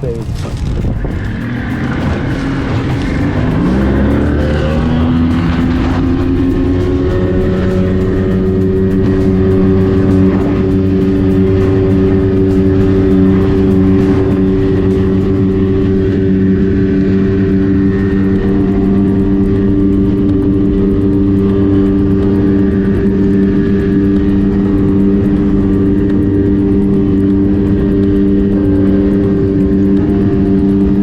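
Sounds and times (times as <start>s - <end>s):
outboard motor at full throttle: 0.0s - 31.0s.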